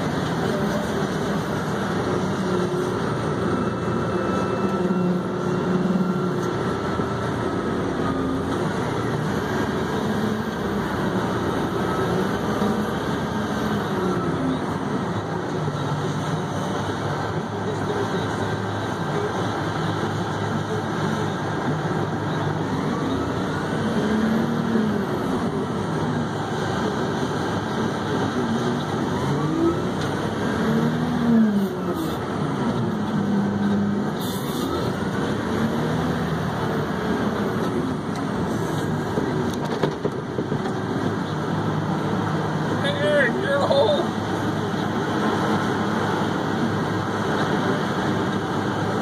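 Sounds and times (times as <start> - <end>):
truck diesel engine revving: 0.0 - 49.0.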